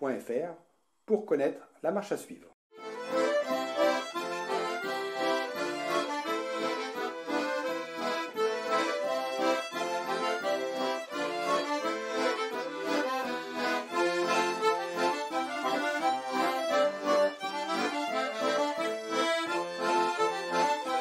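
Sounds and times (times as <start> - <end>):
button accordion dance tune: 2.8 - 21.0.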